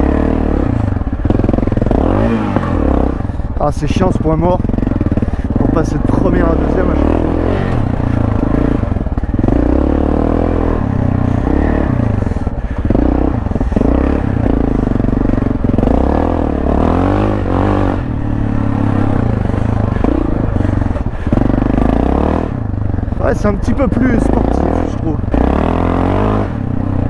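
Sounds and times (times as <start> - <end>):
motorcycle clattering over rough ground: 0.0 - 26.0
motorcycle engine revving: 0.0 - 27.0.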